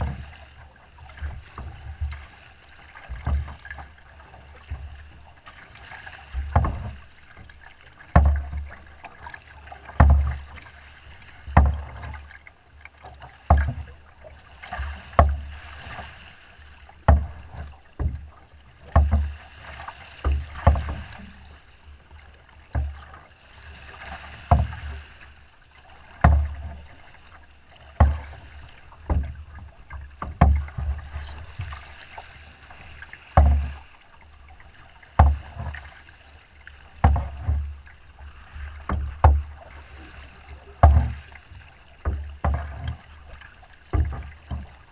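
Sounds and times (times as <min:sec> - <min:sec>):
splashing and rushing water: 0:00.0 - 0:44.9
water slapping boat hull: 0:00.0 - 0:44.9.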